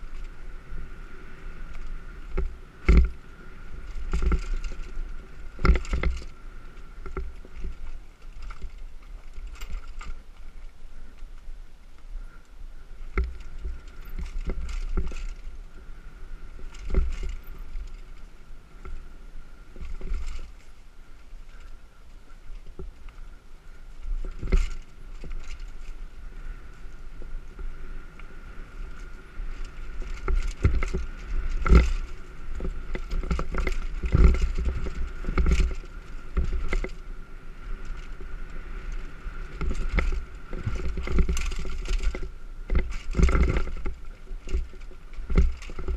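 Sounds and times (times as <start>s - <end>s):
bike knocking and clattering: 0.0s - 11.4s, 12.8s - 45.9s
faint steady whine: 0.0s - 45.9s
wind rumble on microphone: 0.0s - 45.9s.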